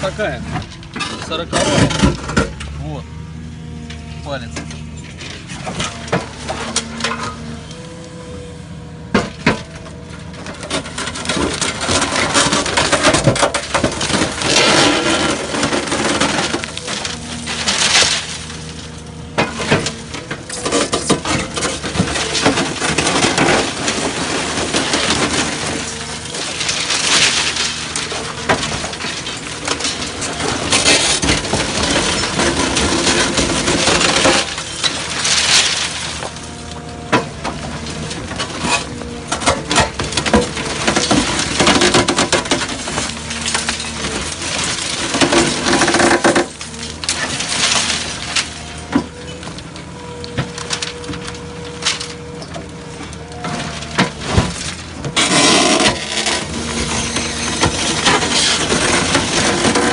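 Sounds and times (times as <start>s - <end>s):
concrete crunching and cracking: 0.0s - 8.4s, 9.0s - 59.9s
excavator engine running: 0.0s - 59.9s.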